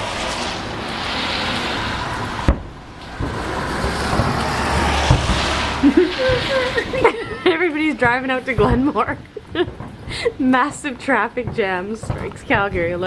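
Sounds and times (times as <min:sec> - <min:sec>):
distant fireworks thuds: 0:00.0 - 0:13.0
vehicle traffic tyre noise: 0:00.0 - 0:13.0.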